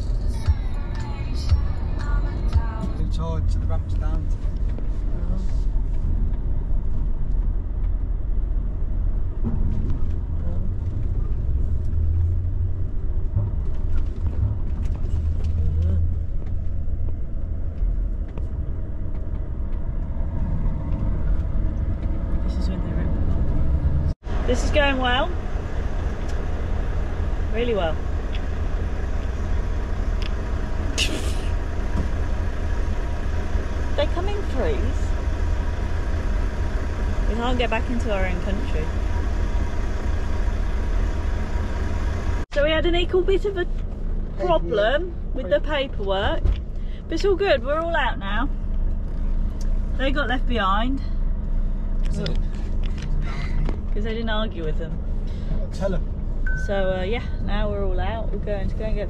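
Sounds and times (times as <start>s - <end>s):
diesel engine running low: 0.0s - 59.0s.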